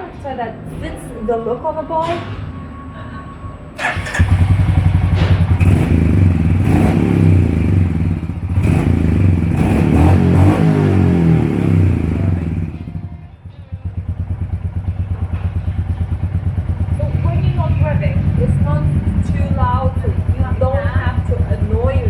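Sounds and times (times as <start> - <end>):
motorcycle engine idling: 3.8 - 22.0
motorcycle engine revving: 3.8 - 22.0.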